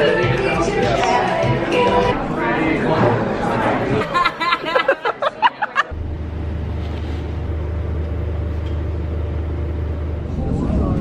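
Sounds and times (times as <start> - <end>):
steady low hum: 1.6 - 11.0.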